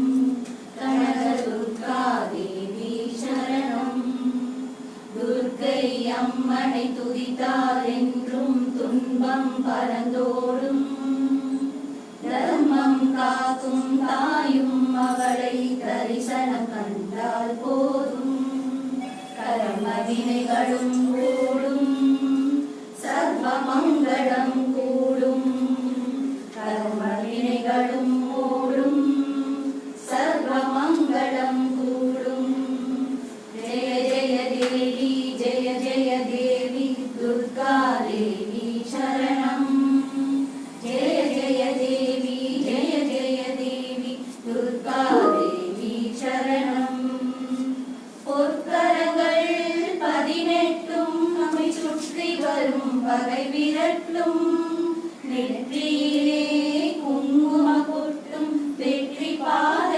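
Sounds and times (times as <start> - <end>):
women singing together: 0.0 - 59.9.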